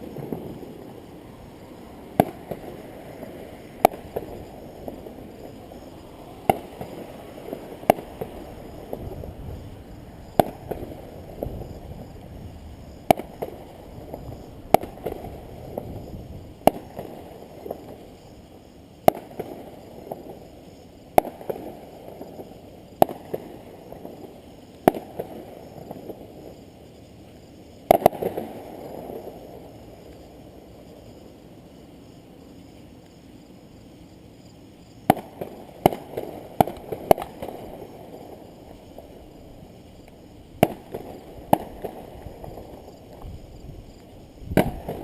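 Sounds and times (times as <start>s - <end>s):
fireworks shells bursting with booms: 0.0s - 26.7s, 27.8s - 30.2s, 35.0s - 45.0s.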